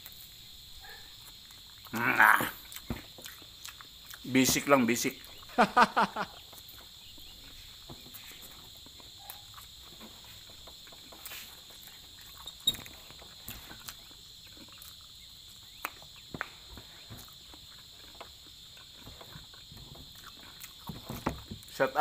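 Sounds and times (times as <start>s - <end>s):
person chewing food: 0.0s - 4.5s, 5.1s - 5.6s, 6.2s - 21.7s
insects chirring: 0.0s - 22.0s.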